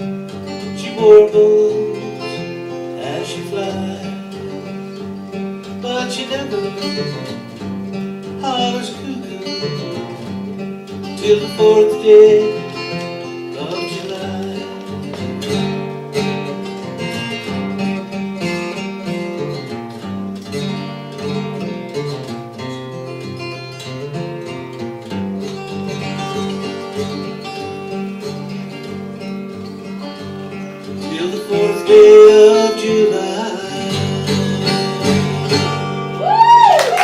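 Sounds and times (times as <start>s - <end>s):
acoustic guitar picking folk tune: 0.0s - 36.4s.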